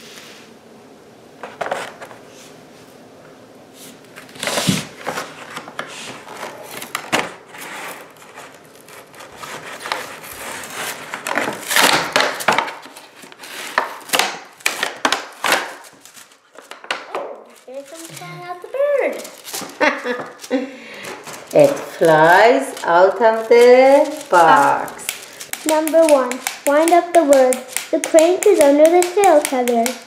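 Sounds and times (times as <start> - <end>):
plastic packaging crinkling: 4.2 - 30.0.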